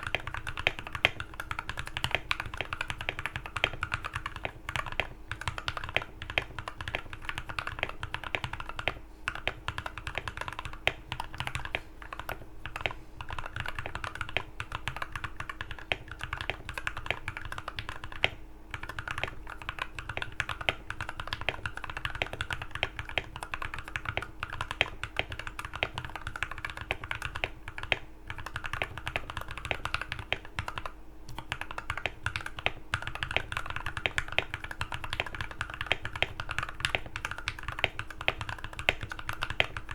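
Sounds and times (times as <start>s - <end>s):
rapid mechanical keyboard typing: 0.0s - 39.9s.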